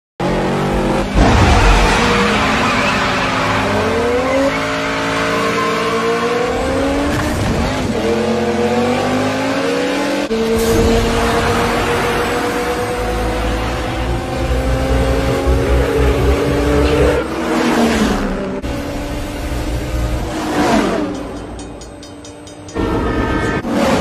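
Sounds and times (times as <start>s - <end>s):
drag racing cars accelerating: 0.2s - 24.0s.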